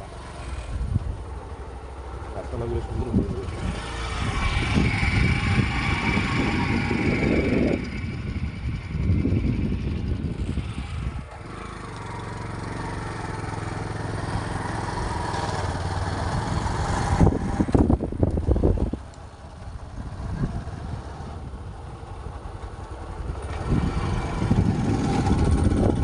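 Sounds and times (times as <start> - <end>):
small vehicle engine running: 0.0 - 26.0.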